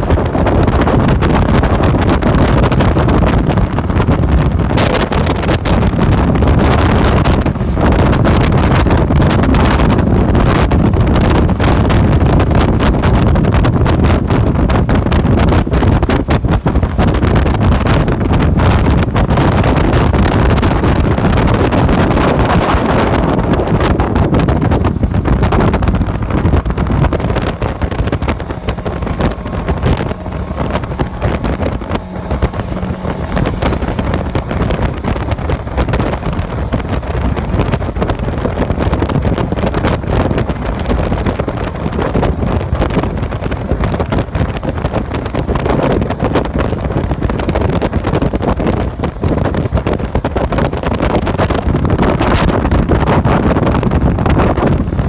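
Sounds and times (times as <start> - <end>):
outboard engine at high speed: 0.0 - 55.0
water rushing: 0.0 - 55.0
wind noise on microphone: 0.0 - 55.0.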